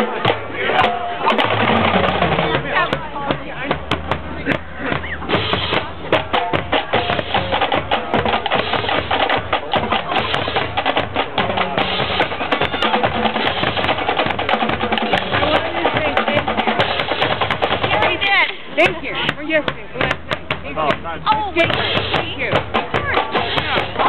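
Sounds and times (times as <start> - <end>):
marching drum line: 0.0 - 24.0.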